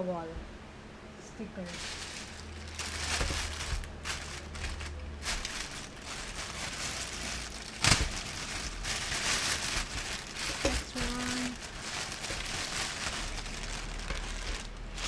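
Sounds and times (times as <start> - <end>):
packaging rustling and crinkling: 1.7 - 15.0.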